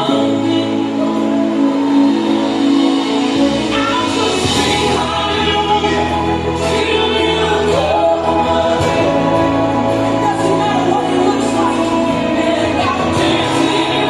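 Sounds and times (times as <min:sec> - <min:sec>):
gospel choir singing: 0:00.0 - 0:14.0.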